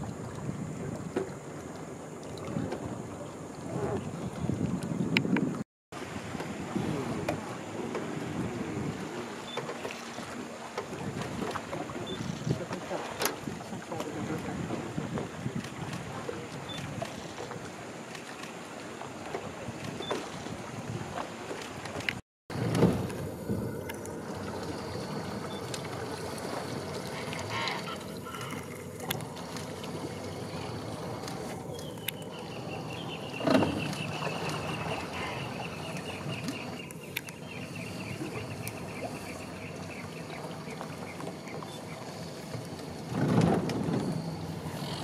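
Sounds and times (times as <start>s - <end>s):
boat rumble and hiss: 0.0s - 45.0s.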